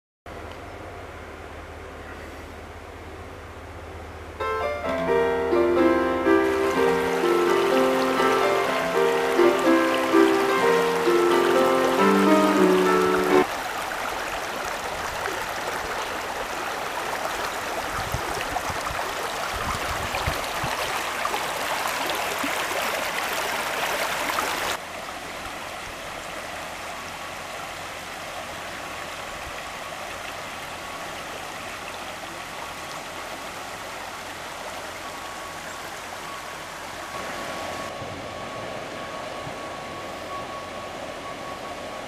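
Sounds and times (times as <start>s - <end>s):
river water rushing over stones: 4.8s - 39.2s.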